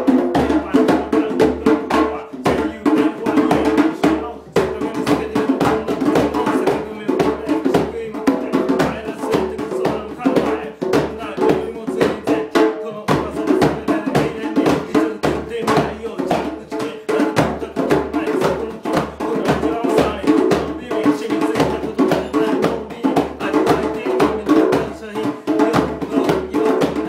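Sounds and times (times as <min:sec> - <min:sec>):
hand drum rhythm: 0:00.0 - 0:27.0
man singing: 0:00.0 - 0:27.0.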